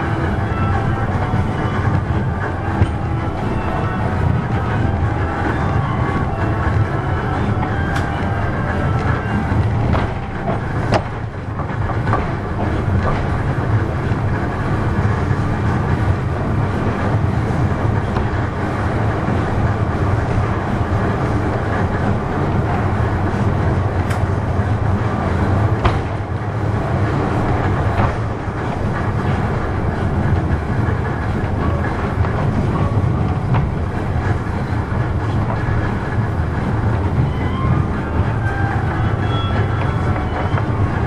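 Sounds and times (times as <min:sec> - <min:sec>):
wheels rumbling on rails: 0:00.0 - 0:41.0.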